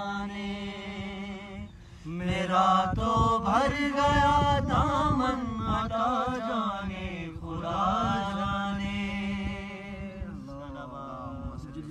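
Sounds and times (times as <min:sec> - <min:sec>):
man singing devotional song: 0:00.0 - 0:11.9.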